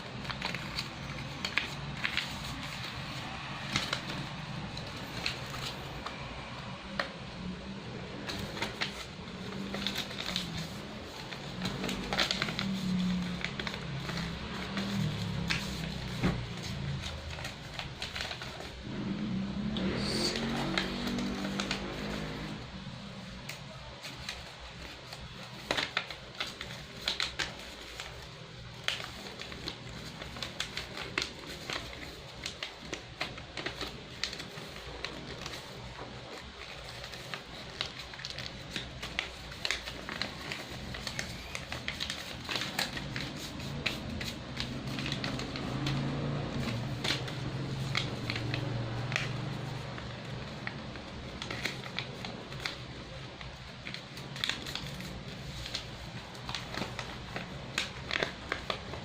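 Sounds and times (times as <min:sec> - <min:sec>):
paper creasing clicks: 0:00.0 - 0:07.2, 0:08.1 - 0:18.9, 0:19.6 - 0:59.0
paper crinkling and folding: 0:00.0 - 0:59.0.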